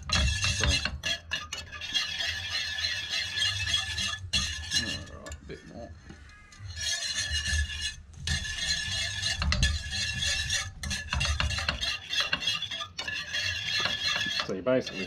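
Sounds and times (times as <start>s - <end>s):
whisk scraping metal pan: 0.0s - 15.0s.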